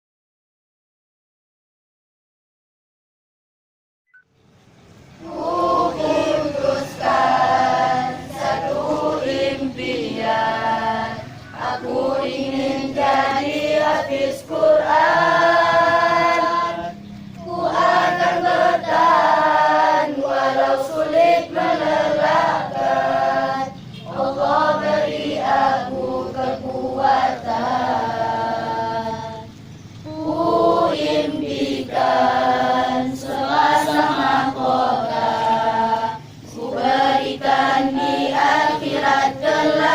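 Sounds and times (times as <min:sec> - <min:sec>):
choir singing: 0:05.2 - 0:39.9.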